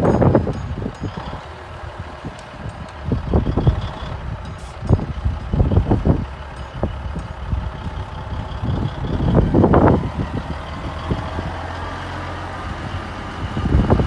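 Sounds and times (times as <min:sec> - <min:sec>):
truck diesel engine rumbling: 0:00.0 - 0:14.0
wind buffeting microphone: 0:00.0 - 0:14.0.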